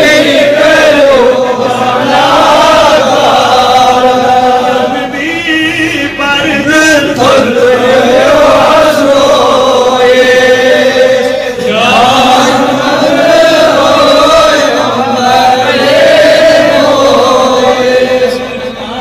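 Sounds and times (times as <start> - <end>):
man chanting devotional poem: 0.0 - 13.0, 13.6 - 19.0.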